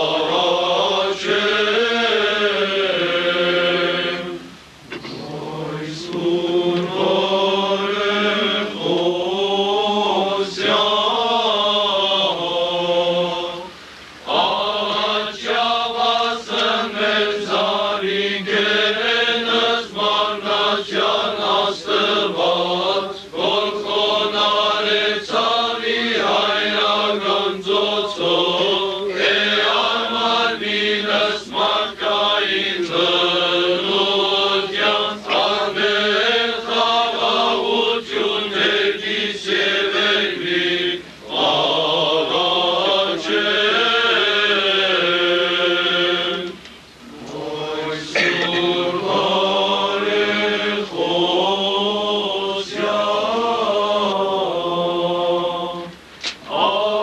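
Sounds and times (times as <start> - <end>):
voices singing liturgical chant: 0.0 - 57.0.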